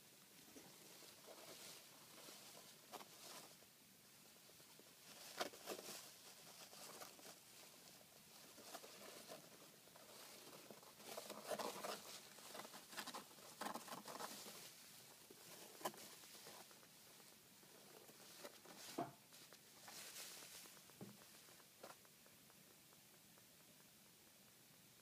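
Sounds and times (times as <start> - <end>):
hedgehog rustling in shavings: 0.4 - 3.7, 4.3 - 21.6.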